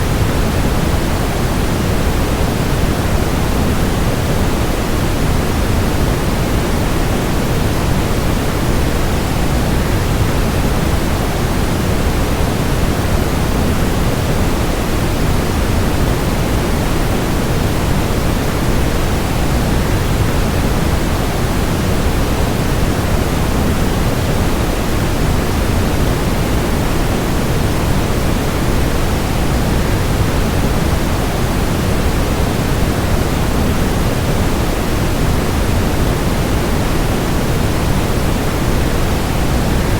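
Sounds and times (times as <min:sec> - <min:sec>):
white noise: 0:00.0 - 0:39.9.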